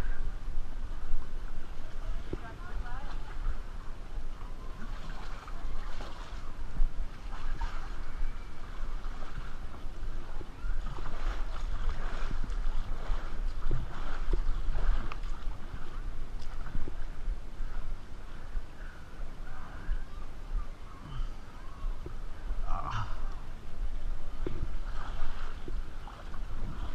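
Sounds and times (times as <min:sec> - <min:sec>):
low steady rumble: 0:00.0 - 0:26.9
water lapping and sloshing: 0:00.9 - 0:26.9.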